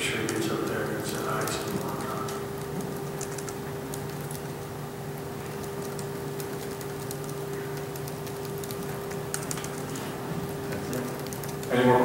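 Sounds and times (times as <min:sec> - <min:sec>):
steady electrical hum: 0:00.0 - 0:12.0
laptop keyboard typing clicks: 0:00.1 - 0:10.1, 0:10.7 - 0:11.7.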